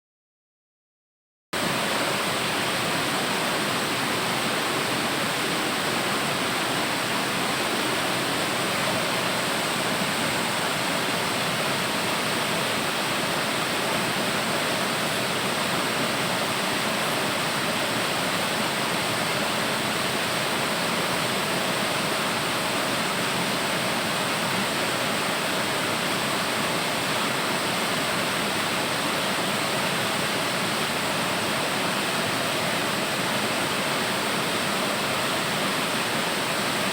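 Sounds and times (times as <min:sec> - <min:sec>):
waterfall rushing: 0:01.6 - 0:36.9.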